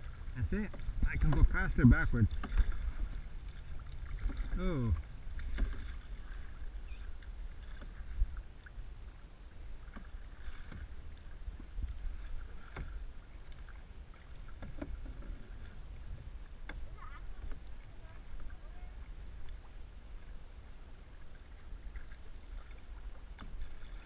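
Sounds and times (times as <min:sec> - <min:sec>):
paddles splashing in water: 0:00.0 - 0:24.0.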